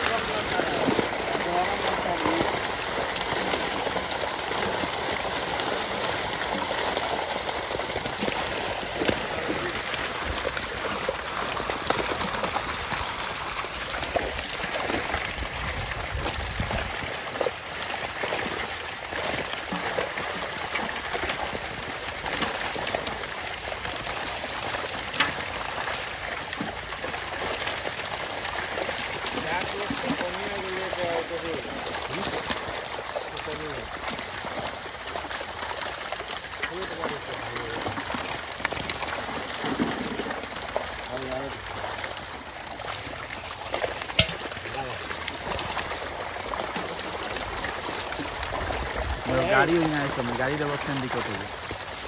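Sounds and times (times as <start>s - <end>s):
fish splashing in shallow water: 0.0s - 52.0s.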